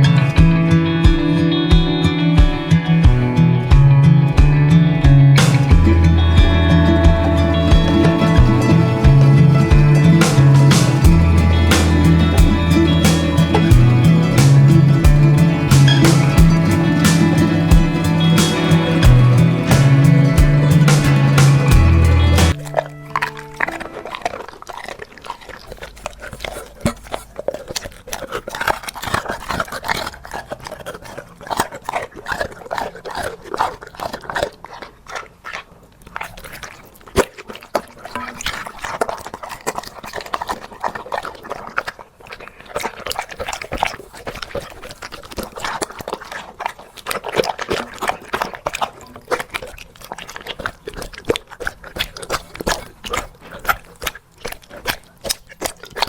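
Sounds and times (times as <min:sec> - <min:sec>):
puppy lapping and chewing: 0:05.7 - 0:56.0.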